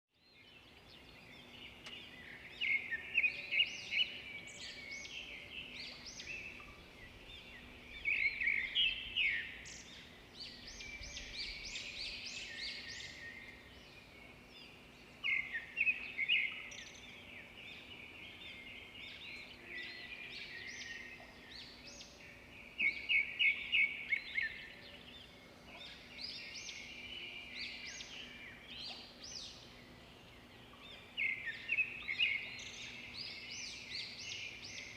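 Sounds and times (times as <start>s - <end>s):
songbird chirping: 0.1s - 34.9s.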